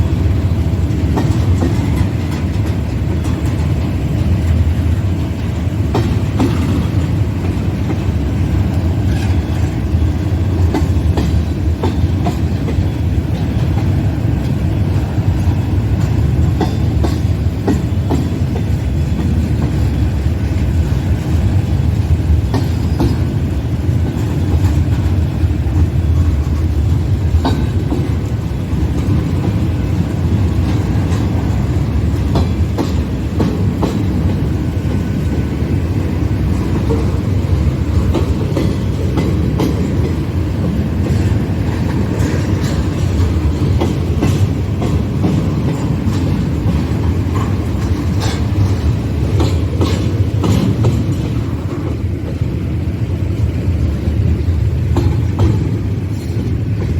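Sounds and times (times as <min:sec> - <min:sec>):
train cars rumbling: 0:00.0 - 0:56.9
wheels clacking over rails: 0:00.0 - 0:56.9.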